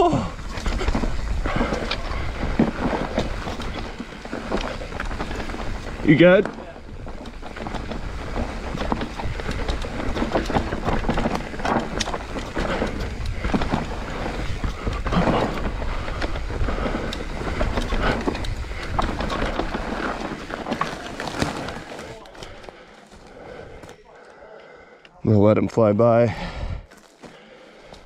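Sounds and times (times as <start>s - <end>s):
bike rattling over bumps: 0.0s - 24.0s
tyres on loose dirt: 0.0s - 24.4s, 26.6s - 28.0s.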